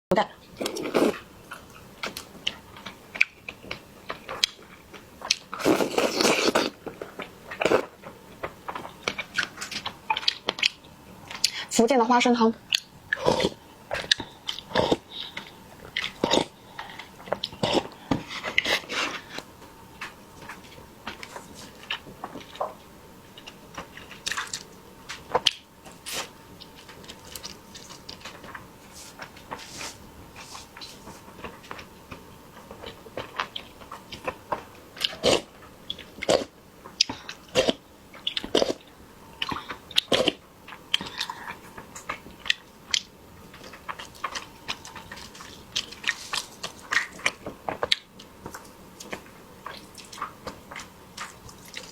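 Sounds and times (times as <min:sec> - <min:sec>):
faint steady hum: 0:00.1 - 0:51.9
close chewing with mouth clicks: 0:00.4 - 0:11.7, 0:12.6 - 0:51.9.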